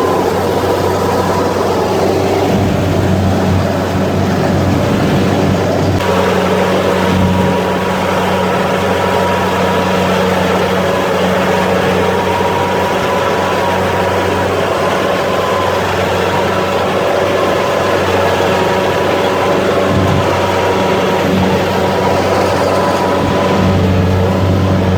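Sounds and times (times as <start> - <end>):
combine harvester engine hum: 0.0 - 24.9
high machine whine: 0.0 - 24.9.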